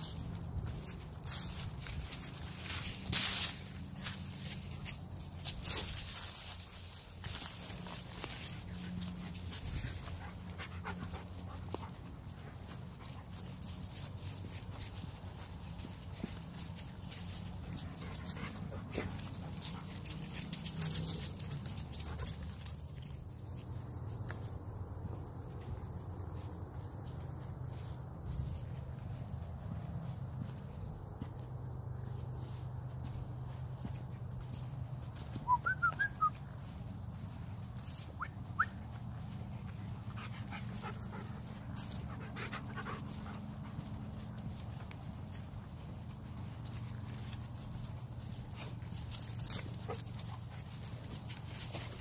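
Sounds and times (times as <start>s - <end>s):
footsteps on dry leaves: 0.0s - 52.0s.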